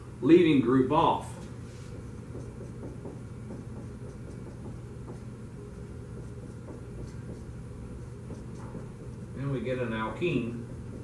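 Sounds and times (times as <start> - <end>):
low room hum: 0.0 - 11.0
marker scratching on whiteboard: 1.4 - 11.0.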